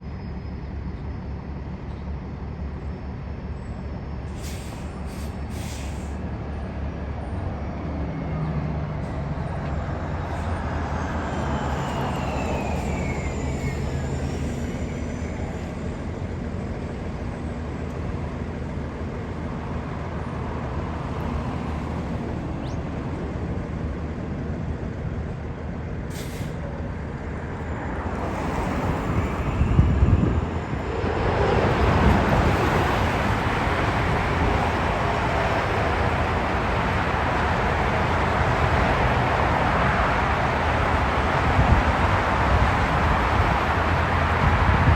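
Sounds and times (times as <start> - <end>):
jet engines rumbling overhead: 8.8 - 44.9.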